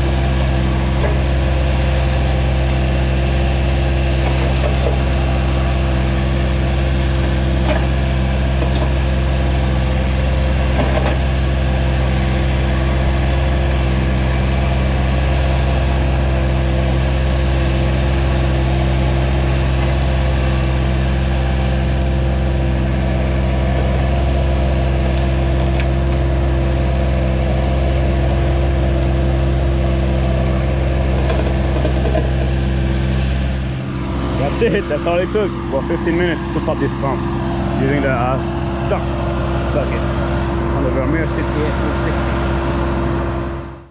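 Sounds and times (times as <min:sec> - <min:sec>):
loader engine running steadily: 0:00.0 - 0:43.9.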